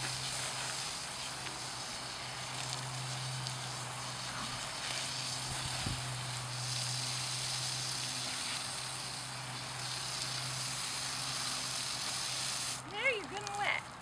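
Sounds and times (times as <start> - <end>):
garden hose spray hissing: 0.0 - 13.9.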